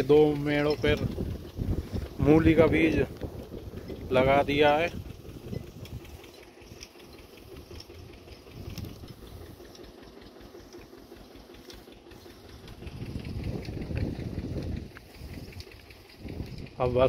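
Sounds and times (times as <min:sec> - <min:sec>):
tractor engine low chugging: 0:00.0 - 0:17.0.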